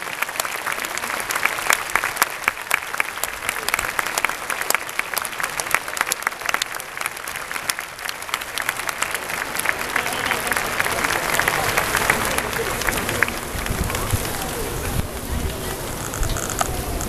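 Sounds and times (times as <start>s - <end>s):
sharp nearby claps: 0.0s - 16.2s
crowd clapping: 0.0s - 17.0s.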